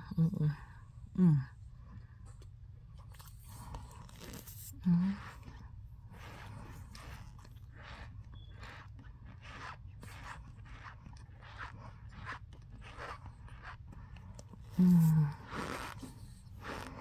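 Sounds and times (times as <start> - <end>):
chewing with soft crunches: 0.7 - 17.0.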